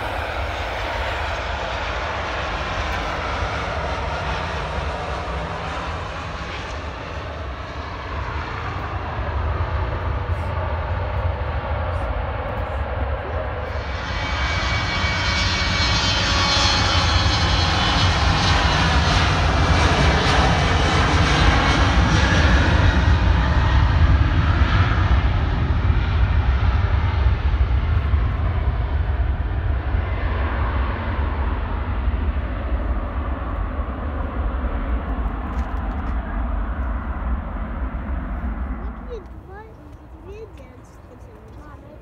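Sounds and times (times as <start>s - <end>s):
jet airliner engines roaring: 0.0s - 42.0s.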